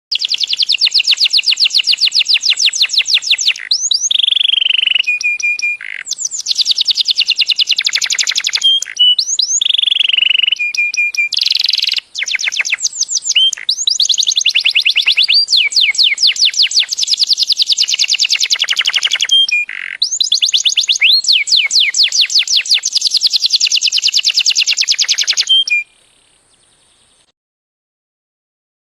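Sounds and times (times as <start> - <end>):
canary singing trills: 0.1 - 27.3.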